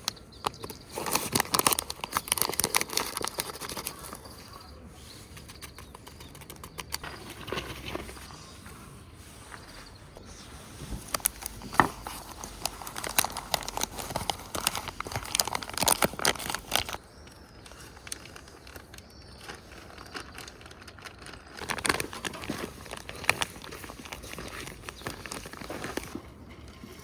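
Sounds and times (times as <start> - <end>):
crinkling and crackling: 0.0 - 27.0.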